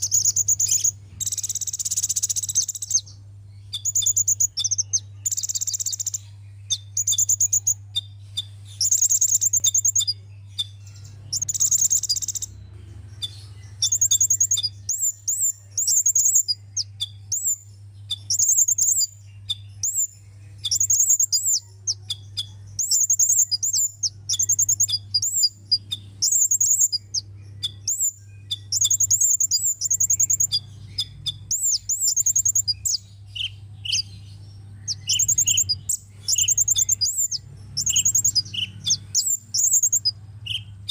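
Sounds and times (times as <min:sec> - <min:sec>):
bird chirping high-pitched: 0:00.0 - 0:40.9
steady low hum: 0:00.0 - 0:40.9.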